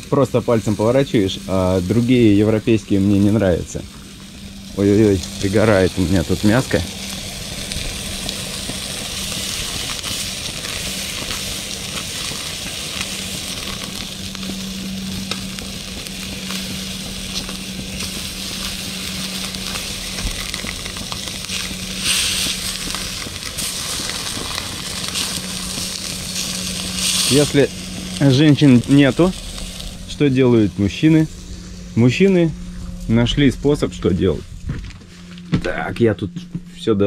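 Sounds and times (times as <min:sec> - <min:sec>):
meat sizzling on grill: 0:00.0 - 0:33.0
steady low hum: 0:00.0 - 0:37.0.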